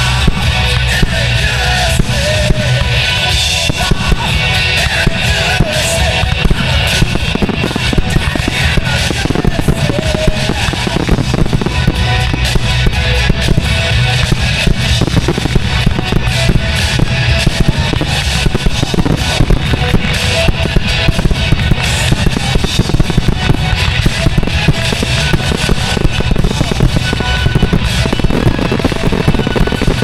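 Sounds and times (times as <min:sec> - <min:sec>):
fireworks bursting and crackling: 0:00.0 - 0:30.0
rock music with drums: 0:00.0 - 0:30.0.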